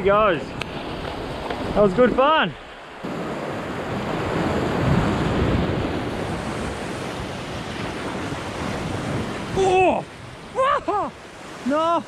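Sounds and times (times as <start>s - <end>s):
waves breaking against rocks: 0.0s - 12.0s.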